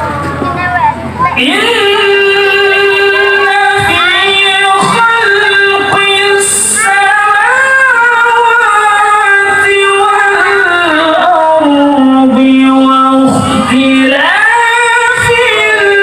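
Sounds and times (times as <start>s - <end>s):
person reciting melodically: 0.0s - 16.0s.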